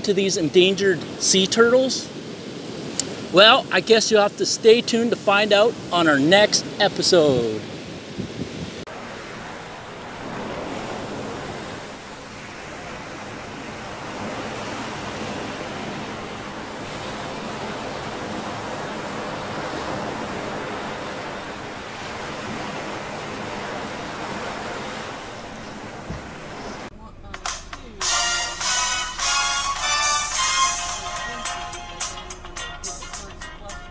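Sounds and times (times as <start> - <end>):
ocean surf breaking on beach: 0.0 - 33.9.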